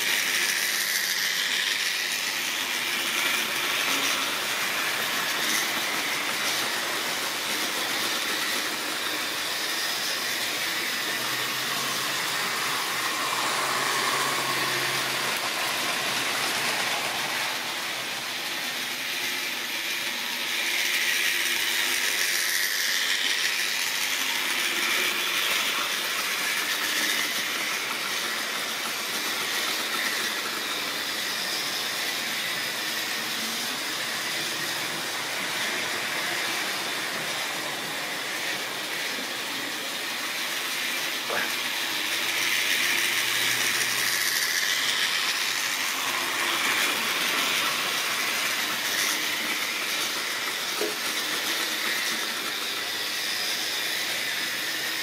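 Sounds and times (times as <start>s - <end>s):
model train wheels rattling: 0.0s - 19.0s, 19.6s - 31.4s, 39.1s - 55.0s
small electric motor whirr: 0.0s - 55.0s.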